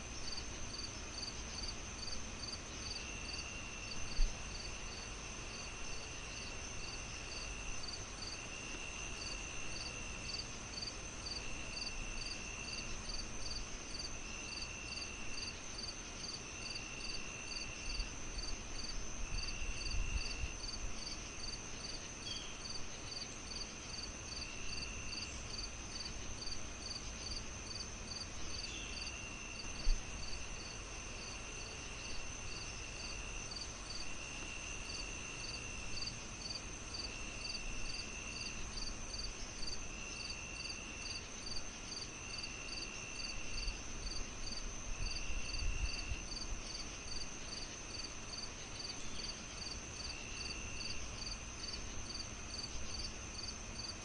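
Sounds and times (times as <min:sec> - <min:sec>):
crickets chirping: 0:00.0 - 0:54.0
high insect buzz: 0:00.0 - 0:54.0.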